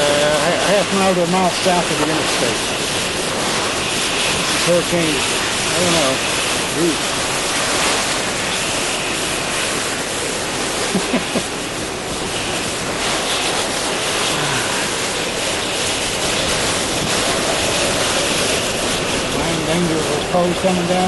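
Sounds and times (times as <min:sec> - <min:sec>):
heavy rain: 0:00.0 - 0:21.0
wind: 0:00.0 - 0:21.0.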